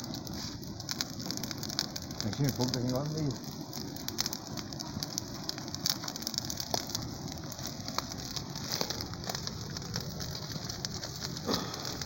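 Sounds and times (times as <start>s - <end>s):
bonfire crackling and popping: 0.0s - 12.0s
rushing hiss of fire: 0.0s - 12.0s.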